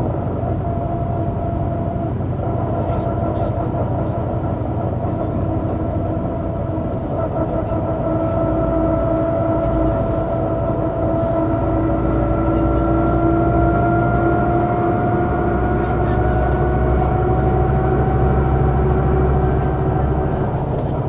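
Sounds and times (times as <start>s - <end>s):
bus engine rumble and whine: 0.0s - 21.0s.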